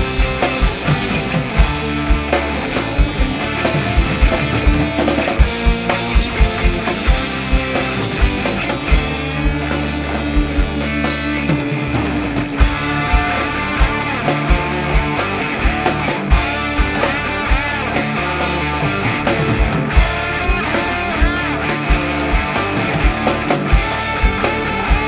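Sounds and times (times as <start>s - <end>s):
fast drum beat: 0.0s - 25.0s
rock music with guitar: 0.0s - 25.0s.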